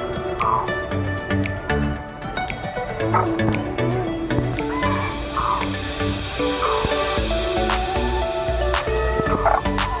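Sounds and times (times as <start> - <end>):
music with percussive beat: 0.0 - 10.0.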